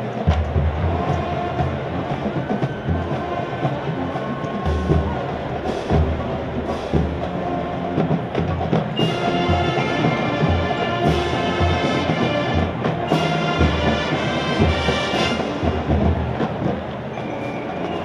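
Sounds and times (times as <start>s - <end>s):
marching band brass chords: 0.0s - 18.0s.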